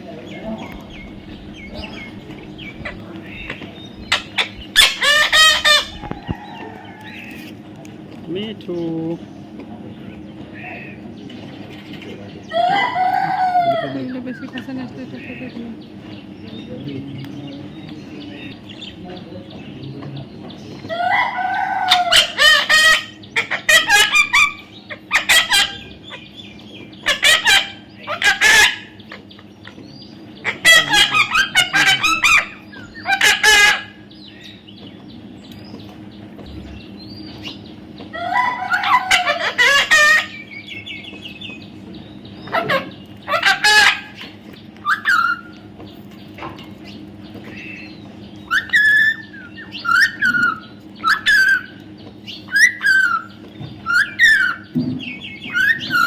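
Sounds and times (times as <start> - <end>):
parrot calling: 0.0 - 7.6, 12.3 - 16.3, 20.8 - 34.7, 36.4 - 56.0.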